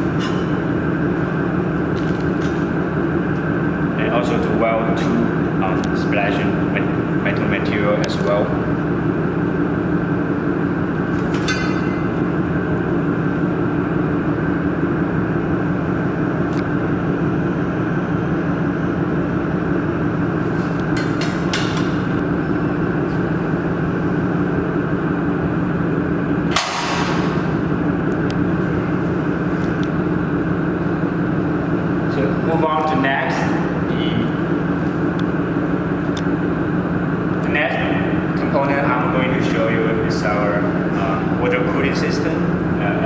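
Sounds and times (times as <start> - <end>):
machinery humming: 0.0 - 43.0.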